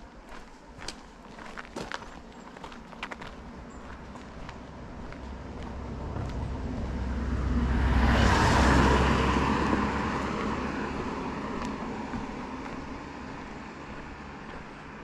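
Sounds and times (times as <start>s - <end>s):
car passing on asphalt: 0.3s - 15.0s.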